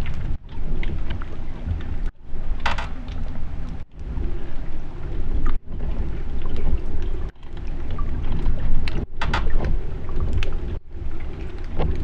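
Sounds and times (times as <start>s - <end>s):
underwater clicks and crackles: 0.0s - 12.0s
underwater rumble of moving water: 0.0s - 12.0s.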